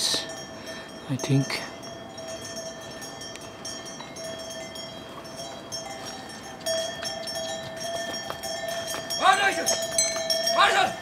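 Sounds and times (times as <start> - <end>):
animal neck bells ringing: 0.0 - 11.0.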